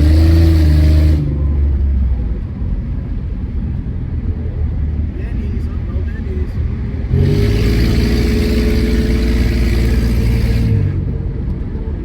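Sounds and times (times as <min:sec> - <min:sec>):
car engine: 0:00.0 - 0:12.0
road noise rumble: 0:00.0 - 0:12.0.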